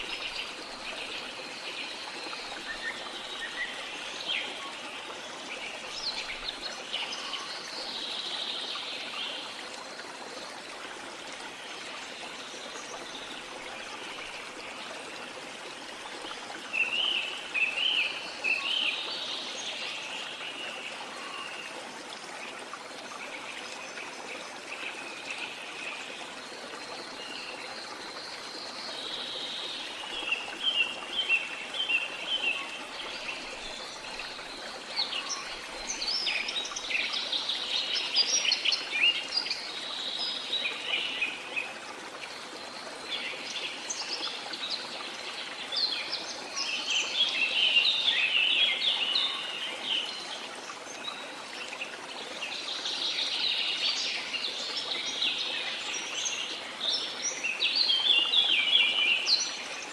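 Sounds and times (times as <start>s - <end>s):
flowing water hiss: 0.0s - 59.9s.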